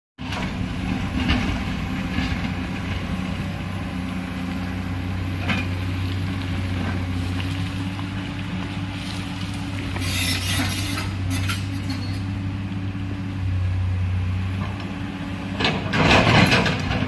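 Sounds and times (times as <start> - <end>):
heavy machinery diesel engine: 0.2 - 17.0.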